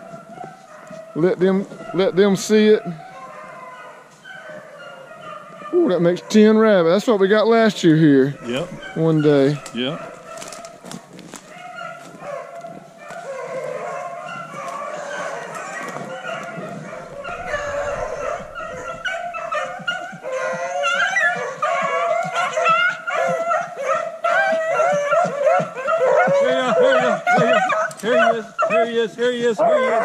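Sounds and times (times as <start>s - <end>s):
pack of dogs baying: 0.0s - 30.0s.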